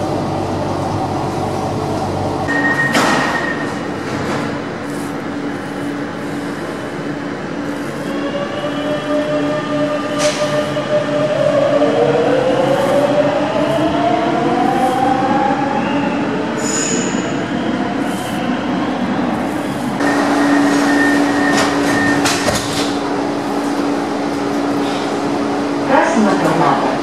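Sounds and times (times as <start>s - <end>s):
train electric motor whine: 0.0s - 27.0s.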